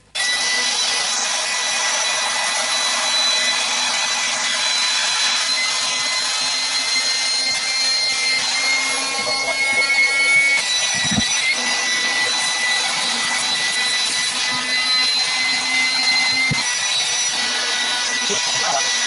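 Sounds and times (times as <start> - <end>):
electric air pump whirring: 0.0 - 19.0.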